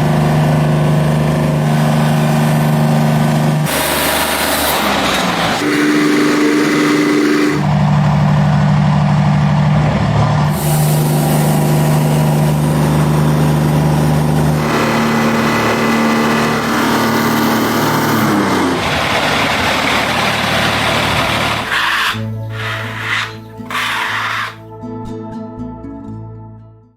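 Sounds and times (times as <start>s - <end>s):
band sawmill cutting log: 0.0s - 7.7s, 10.5s - 24.6s.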